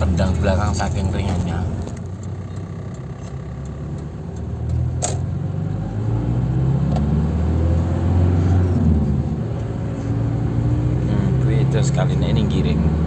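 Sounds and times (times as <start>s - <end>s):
diesel engine pulling under throttle: 0.0s - 13.0s.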